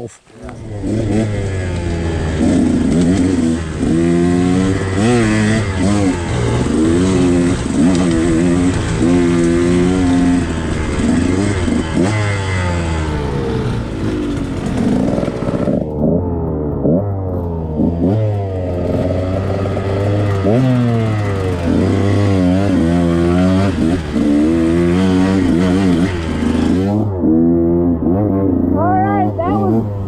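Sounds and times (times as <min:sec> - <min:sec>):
two-stroke motorcycle engine revving: 0:00.4 - 0:30.0.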